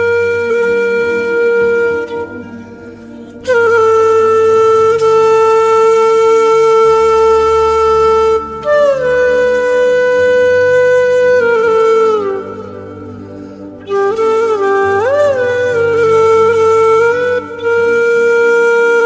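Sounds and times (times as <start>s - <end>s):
woodwind holding long notes: 0.0s - 19.0s.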